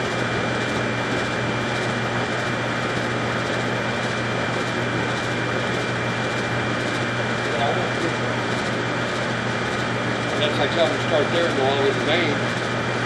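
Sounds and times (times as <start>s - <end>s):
mechanical drone with high whine: 0.0s - 13.0s.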